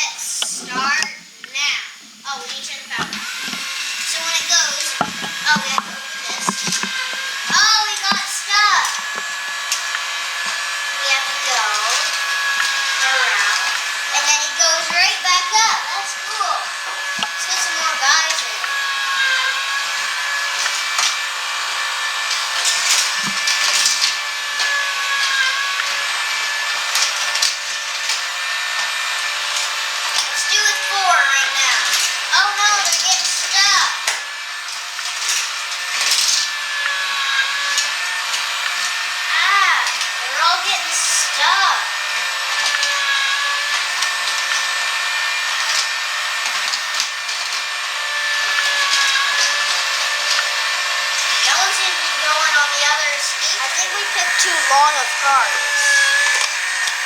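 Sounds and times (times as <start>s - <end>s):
electric motor whine: 0.0s - 57.0s
toy cars clattering on plastic track: 2.4s - 21.4s, 22.3s - 41.8s, 42.4s - 57.0s.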